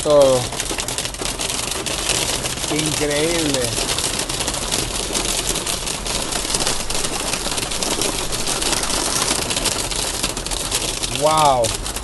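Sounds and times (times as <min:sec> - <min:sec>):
hail drumming on car roof: 0:00.0 - 0:12.0.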